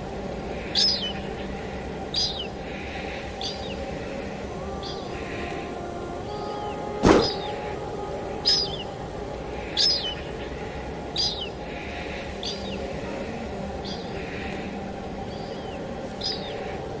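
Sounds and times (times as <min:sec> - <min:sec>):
bird chirping: 0:00.0 - 0:17.0
steady rain: 0:00.0 - 0:17.0.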